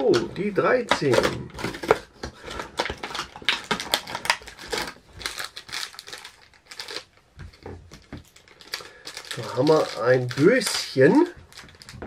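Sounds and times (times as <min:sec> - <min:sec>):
cardboard and packaging crinkling: 0:00.0 - 0:12.0.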